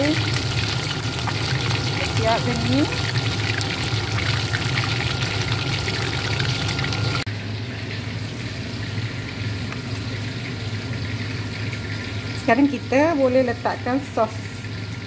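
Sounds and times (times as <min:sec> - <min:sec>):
fish deep-frying in bubbling oil: 0:00.0 - 0:15.0.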